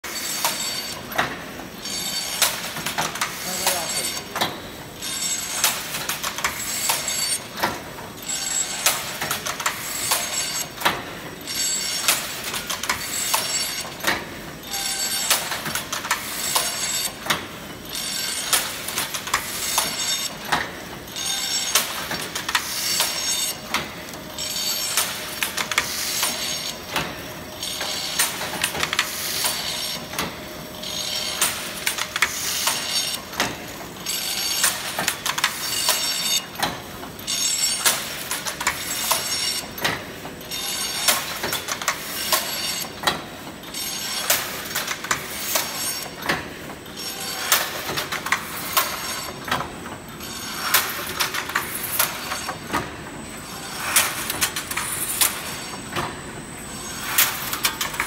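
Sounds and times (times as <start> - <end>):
weaving machine metal clanks: 0.1 - 49.6.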